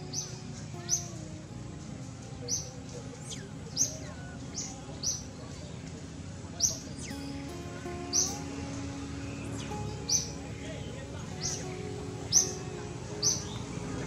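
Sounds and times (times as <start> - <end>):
small bird chirping: 0.0 - 5.8, 6.6 - 14.0.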